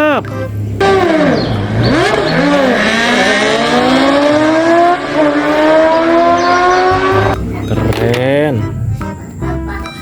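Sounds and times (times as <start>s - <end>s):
motorcycle engine accelerating: 0.4s - 8.4s.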